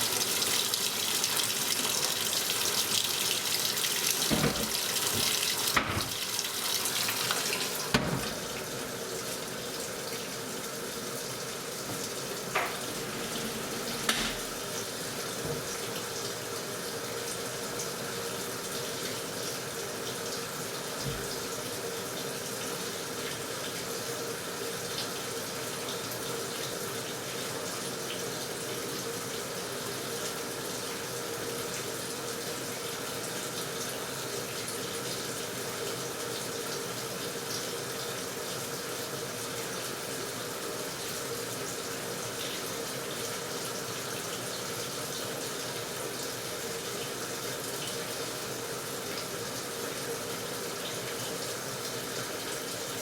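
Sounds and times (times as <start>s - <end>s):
water rushing into washing machine: 0.0s - 53.0s.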